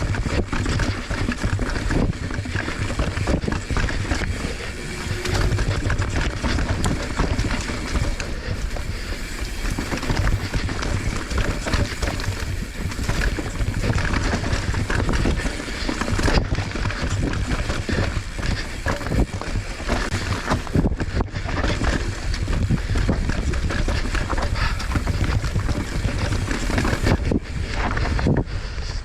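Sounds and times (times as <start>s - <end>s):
bike knocks and rattles: 0.0s - 28.5s
bike tyres on rock and dirt: 0.0s - 29.0s
wind buffeting microphone: 0.0s - 29.0s.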